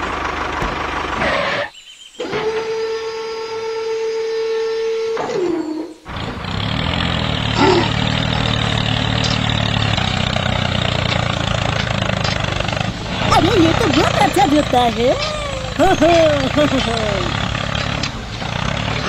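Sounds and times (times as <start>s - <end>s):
tractor engine rumbling: 0.0s - 2.9s, 5.4s - 19.0s.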